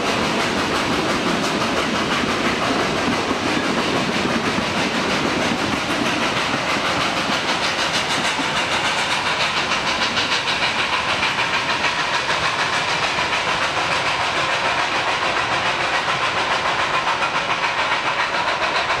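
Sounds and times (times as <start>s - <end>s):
steam hiss: 0.0s - 19.0s
steam locomotive exhaust beats: 0.0s - 19.0s.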